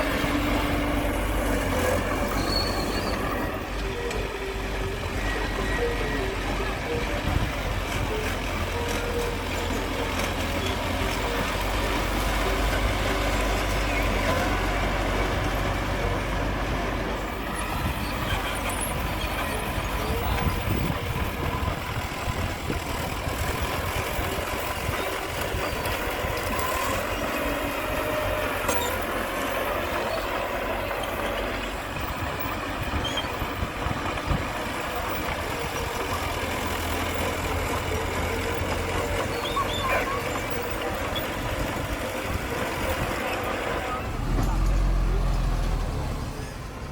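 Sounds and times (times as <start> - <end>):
heavy machinery diesel engines rumbling: 0.0 - 46.9.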